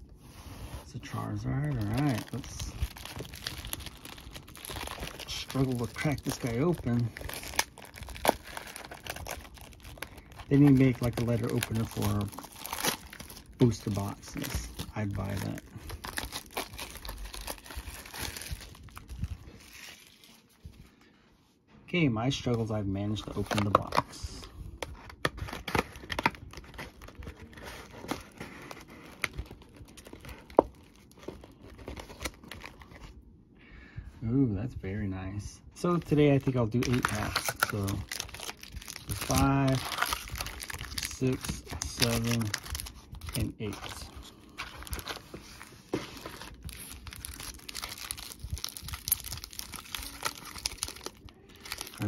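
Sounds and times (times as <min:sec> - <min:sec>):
foil wrappers crinkling: 0:01.1 - 0:20.6, 0:23.2 - 0:33.1, 0:35.9 - 0:52.0.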